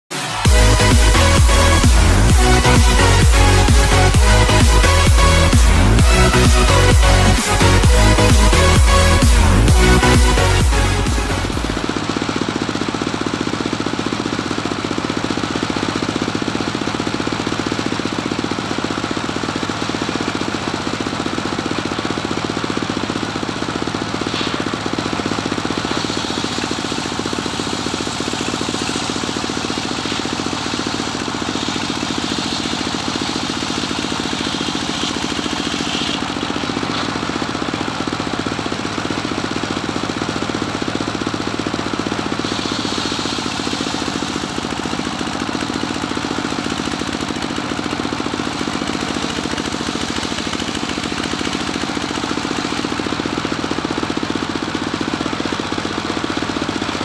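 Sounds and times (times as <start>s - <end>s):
saw blade cutting wood: 0.1s - 57.0s
sawmill engine chugging: 0.1s - 57.0s.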